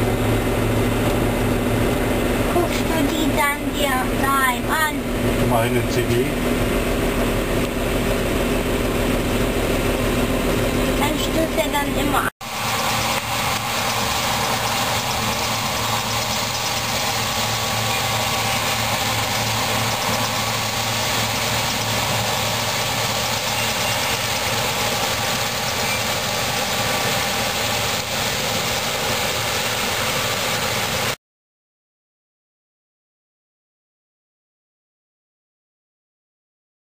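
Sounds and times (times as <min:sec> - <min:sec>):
diesel engine humming: 0:00.0 - 0:31.2.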